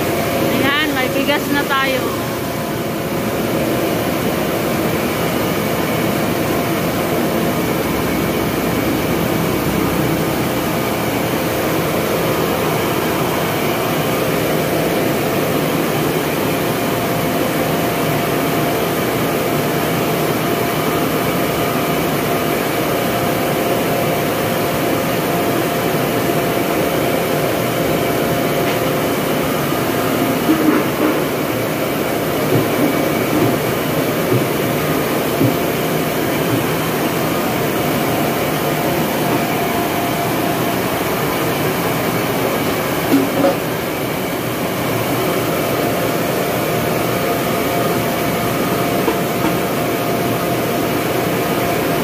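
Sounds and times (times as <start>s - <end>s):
grinding mill drone: 0.0s - 52.0s.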